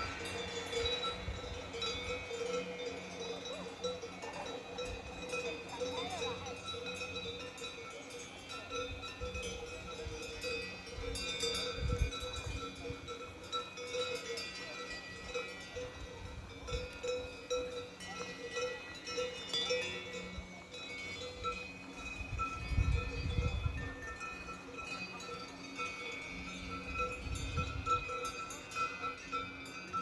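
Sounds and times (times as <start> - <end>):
cowbells clanking: 0.0 - 30.0.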